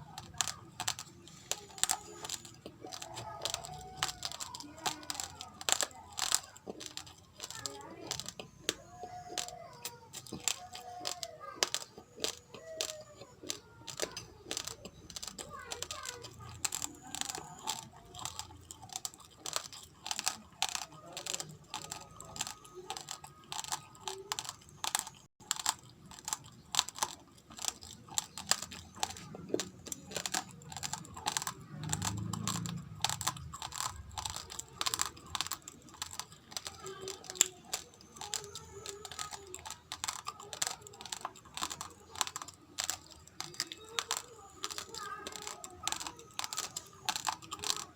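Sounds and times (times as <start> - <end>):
rice grains crunched between teeth: 0.0 - 47.9.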